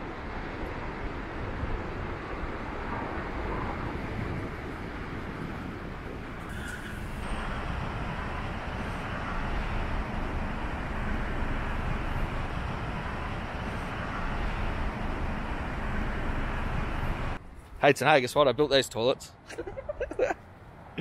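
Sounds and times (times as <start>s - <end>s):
wind rushing over microphone: 0.0s - 17.6s.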